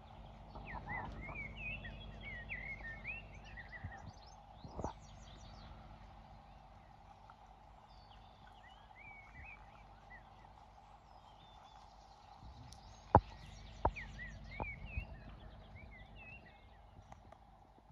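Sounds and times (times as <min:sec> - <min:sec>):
outdoor background noise: 0:00.0 - 0:17.9
small birds chirping: 0:00.0 - 0:17.9.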